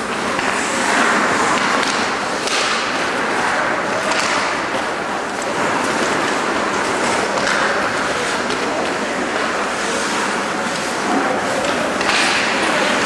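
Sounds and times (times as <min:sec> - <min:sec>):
skates scraping ice: 0:00.0 - 0:13.0
stick hitting puck: 0:00.1 - 0:10.8, 0:11.6 - 0:13.0.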